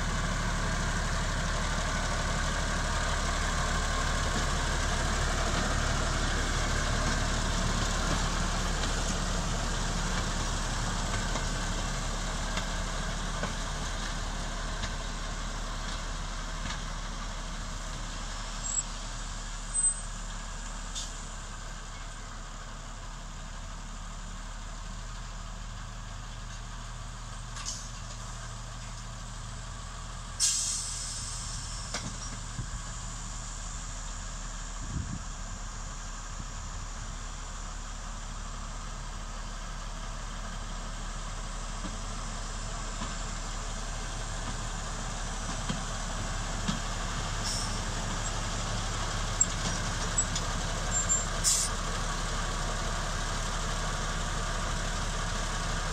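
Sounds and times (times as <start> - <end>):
diesel locomotive engine running: 0.0 - 55.9.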